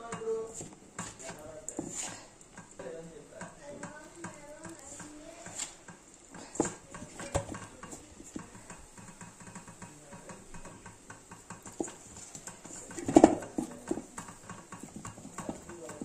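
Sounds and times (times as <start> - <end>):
dough squishing: 0.0 - 16.0.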